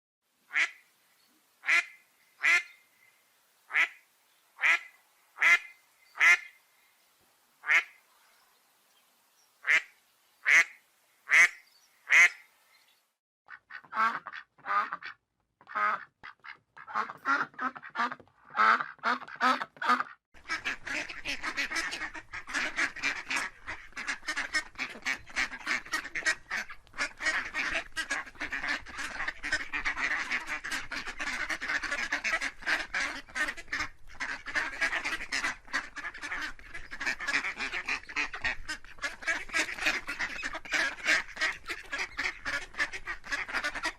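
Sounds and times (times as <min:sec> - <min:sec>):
ducks quacking: 0:01.6 - 0:02.8, 0:03.7 - 0:04.0, 0:04.6 - 0:06.6, 0:07.6 - 0:08.1, 0:09.6 - 0:12.5, 0:13.5 - 0:43.9.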